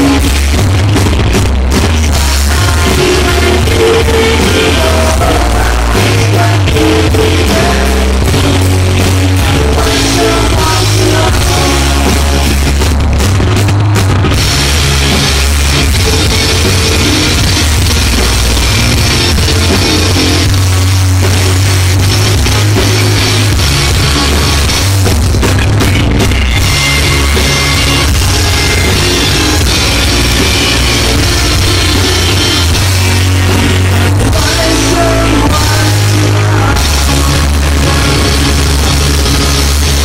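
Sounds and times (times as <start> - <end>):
bass guitar: 0.0 - 40.0
drum kit: 0.0 - 40.0
electric guitar: 0.0 - 40.0
keyboards: 0.0 - 40.0.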